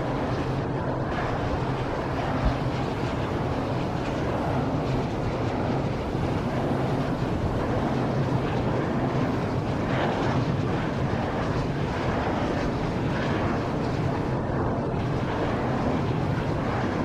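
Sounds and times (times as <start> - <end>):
wind turbine rotor rushing: 0.0 - 17.0.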